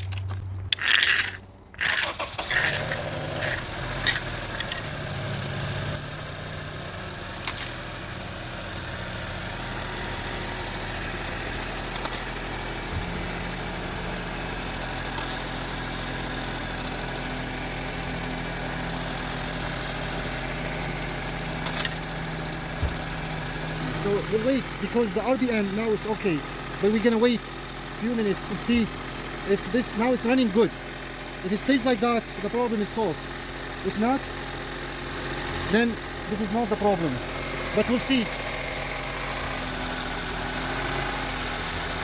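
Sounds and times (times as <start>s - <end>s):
car engine starting and idling: 0.0s - 42.0s.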